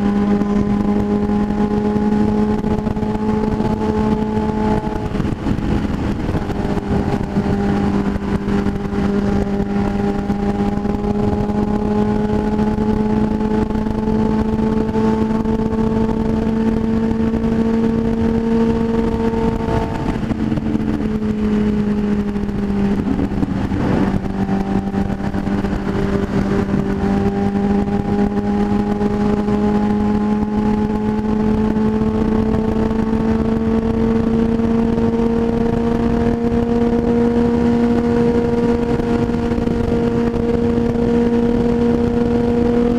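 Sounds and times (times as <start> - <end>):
motorcycle engine cruising: 0.0 - 42.9
wind noise on microphone: 0.0 - 42.9.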